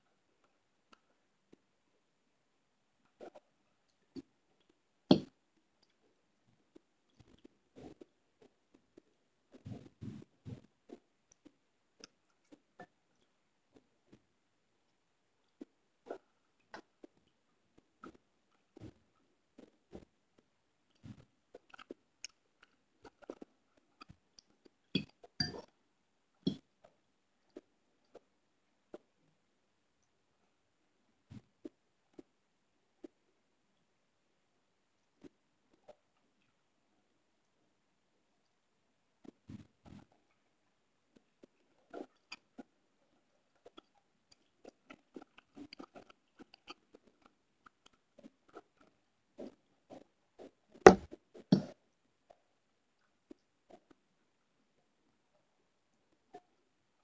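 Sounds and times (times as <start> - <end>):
faint small clicks and ticks: 0.0 - 57.0.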